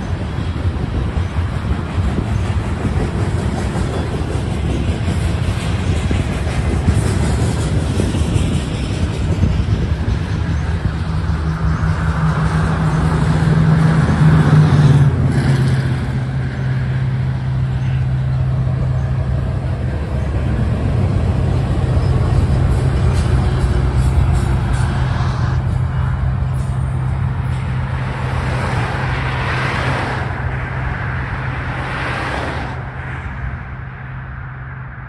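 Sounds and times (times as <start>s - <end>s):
diesel locomotive hum: 0.0s - 35.0s
train wheels rumbling on rail: 0.0s - 35.0s.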